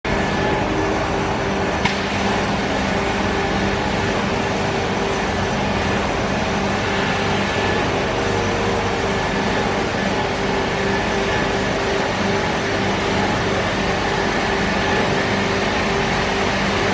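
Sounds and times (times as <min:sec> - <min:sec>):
machinery humming: 0:00.1 - 0:16.9.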